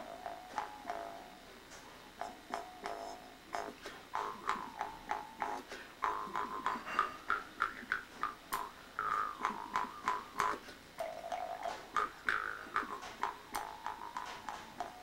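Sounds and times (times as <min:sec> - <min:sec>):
mouth harp twanging: 0:02.2 - 0:15.0.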